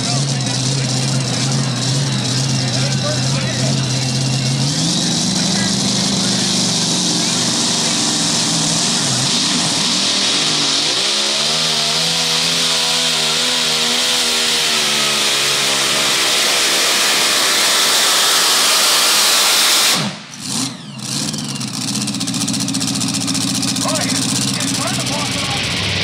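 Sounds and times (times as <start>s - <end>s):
supercharged engine under load: 0.0s - 26.0s.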